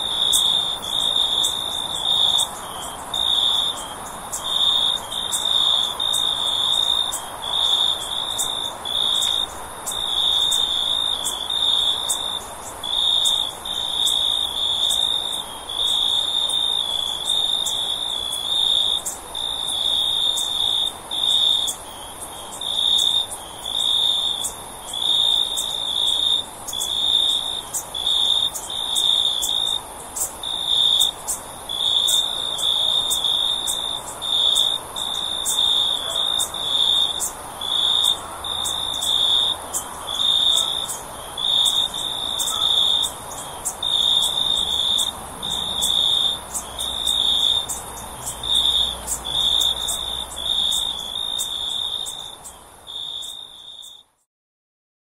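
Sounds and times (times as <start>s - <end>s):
crickets chirping: 0.0s - 54.3s.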